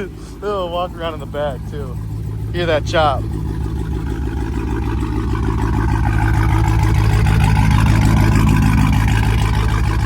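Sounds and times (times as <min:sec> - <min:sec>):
car engine choppy idle: 0:00.0 - 0:10.0.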